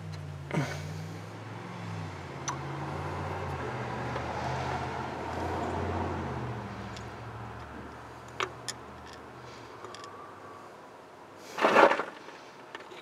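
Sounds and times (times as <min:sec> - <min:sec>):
road vehicle passing by: 0:00.0 - 0:11.0.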